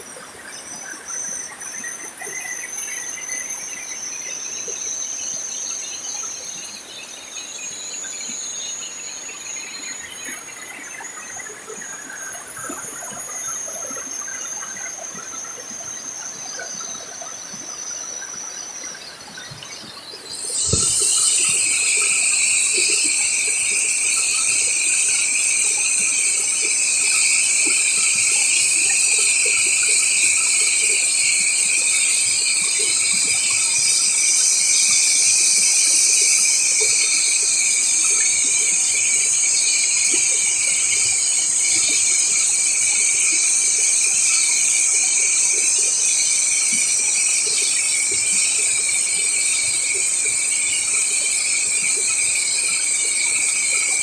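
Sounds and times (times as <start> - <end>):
insects droning shrilly: 0.0 - 54.0.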